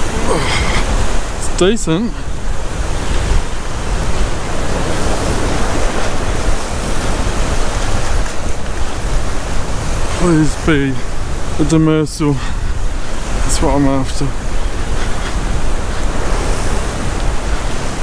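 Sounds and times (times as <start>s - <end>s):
surf breaking on rocks: 0.0s - 18.0s
wind buffeting microphone: 0.0s - 18.0s.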